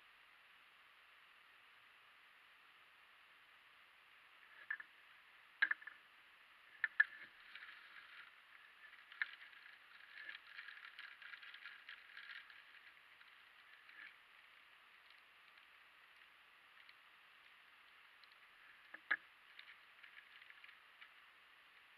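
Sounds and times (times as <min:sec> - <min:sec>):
faint hiss: 0:00.0 - 0:21.9.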